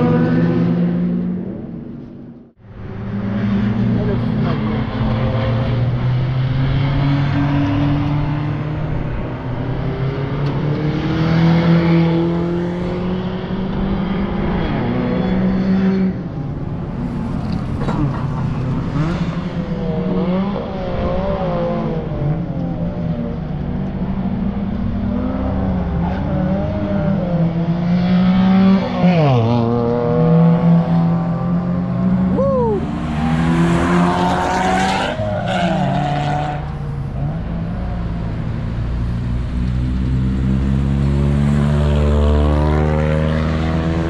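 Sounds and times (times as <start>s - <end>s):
car engine revving under acceleration: 2.8s - 44.0s.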